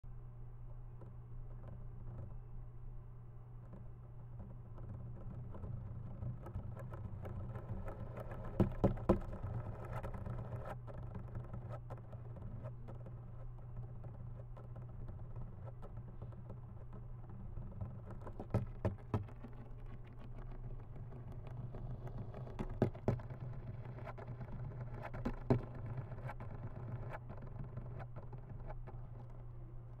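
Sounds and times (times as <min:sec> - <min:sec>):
steady low hum: 0:00.1 - 0:30.0.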